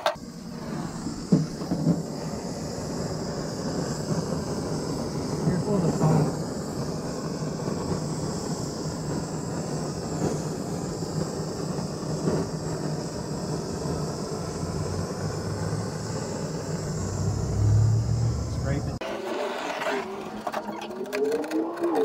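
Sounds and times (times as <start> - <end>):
propane torch hissing: 0.0 - 19.0.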